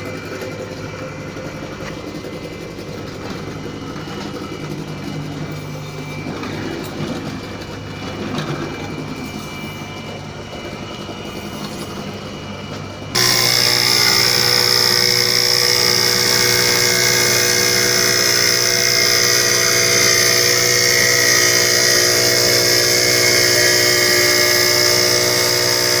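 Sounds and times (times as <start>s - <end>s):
tile cutter motor humming: 0.0s - 26.0s.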